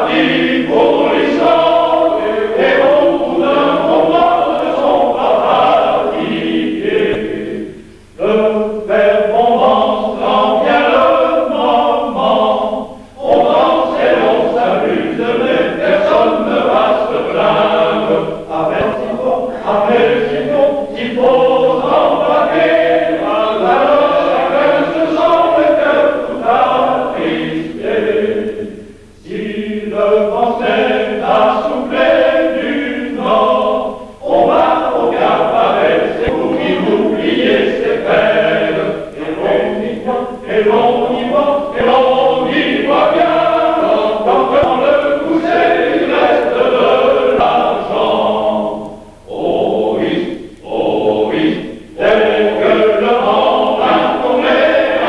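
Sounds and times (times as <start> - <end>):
men's choir singing: 0.0 - 55.0.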